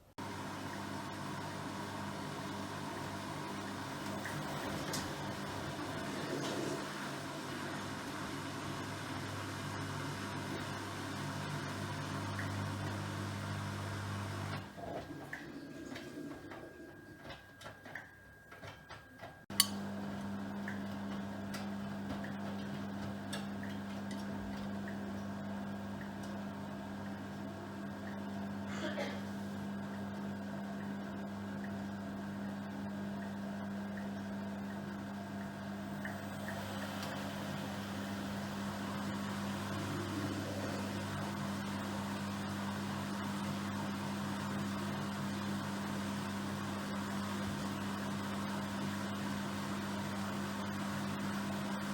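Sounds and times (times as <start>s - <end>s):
washing machine motor hum: 0.0s - 51.9s.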